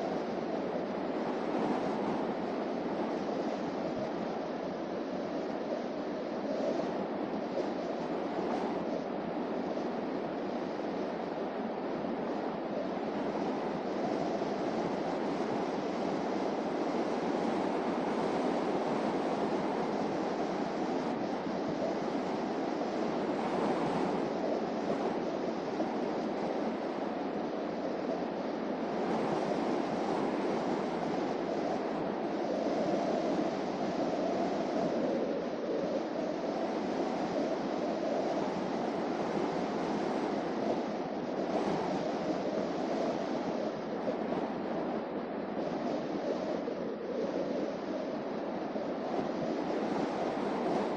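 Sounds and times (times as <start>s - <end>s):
wind rush: 0.0s - 50.9s.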